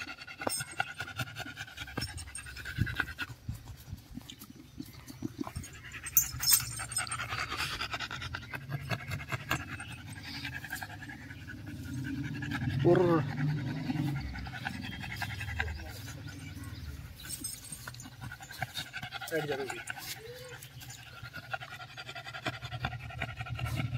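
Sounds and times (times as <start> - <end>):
dog panting rapidly: 0.0 - 23.9.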